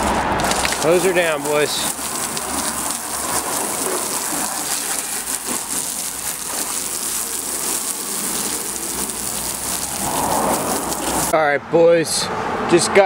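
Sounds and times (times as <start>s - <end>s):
hose spray hitting truck and pavement: 0.0s - 11.4s.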